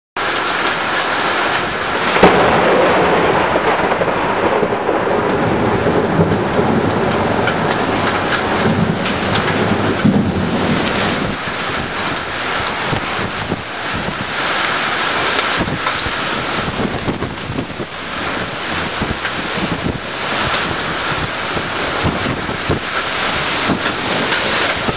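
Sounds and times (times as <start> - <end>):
heavy rain pouring: 0.2 - 24.9
thunder crack and rumble: 1.4 - 24.9.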